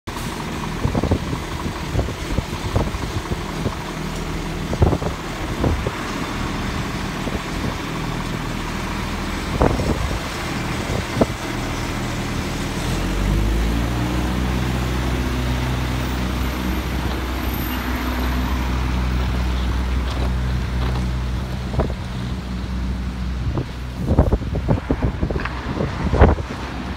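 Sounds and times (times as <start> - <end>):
lorry diesel engine: 0.0 - 26.9.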